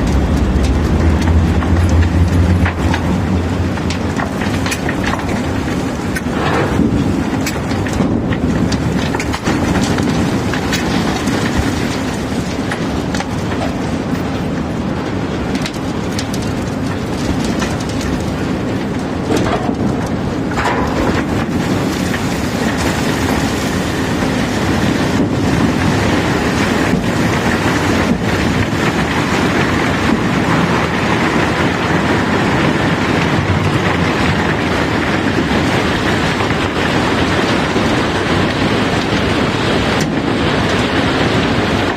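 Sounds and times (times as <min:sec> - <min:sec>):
machinery rumble and rattle: 0:00.0 - 0:41.9.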